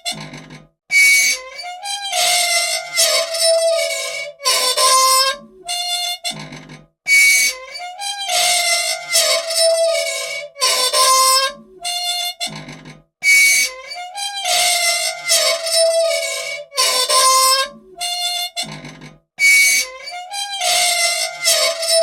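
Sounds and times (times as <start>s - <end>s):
squeaky machine squealing: 0.0s - 22.0s.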